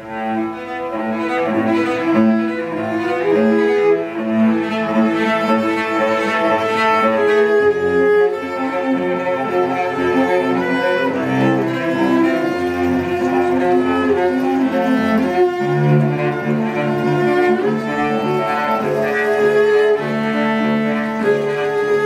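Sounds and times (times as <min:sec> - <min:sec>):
cellos playing bowed notes: 0:00.0 - 0:22.0.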